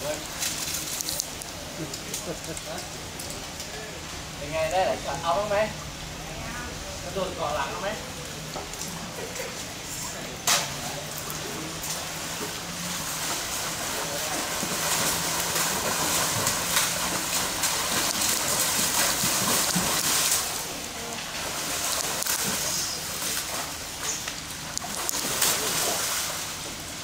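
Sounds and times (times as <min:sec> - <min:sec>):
water splashing and sloshing: 0:00.0 - 0:04.2, 0:07.2 - 0:27.0.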